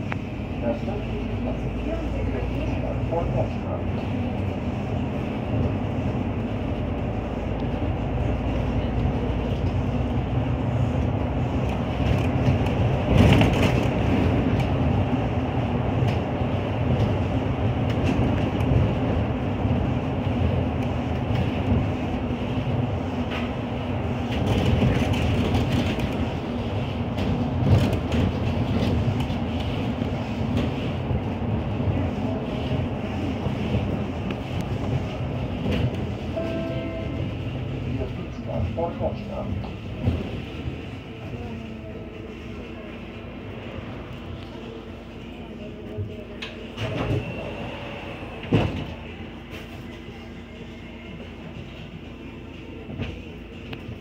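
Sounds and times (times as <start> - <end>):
bus engine hum: 0.0 - 54.0.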